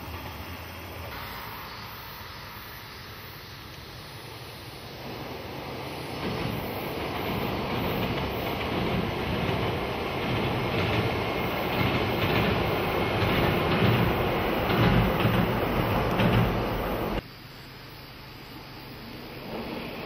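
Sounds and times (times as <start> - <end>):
diesel railcar crossing steel bridge: 0.0 - 17.2, 18.8 - 20.0.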